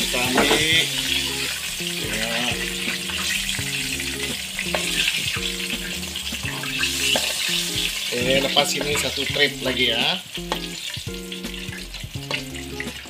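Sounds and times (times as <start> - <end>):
low-note tune: 0.0 - 13.0
oil sizzling: 0.0 - 13.0.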